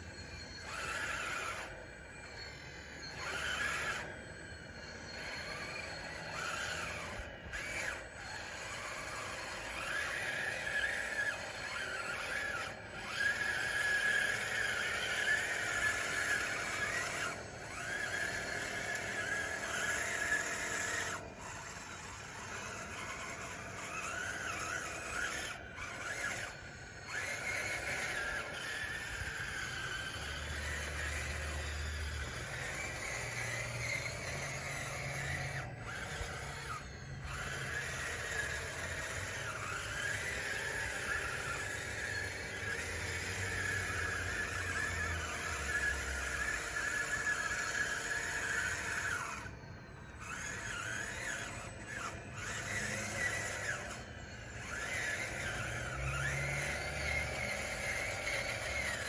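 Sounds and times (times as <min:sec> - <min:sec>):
toy bulldozer motor whining: 0:00.0 - 0:59.0
tracks grinding and rubbing: 0:04.8 - 0:49.5, 0:50.1 - 0:59.0.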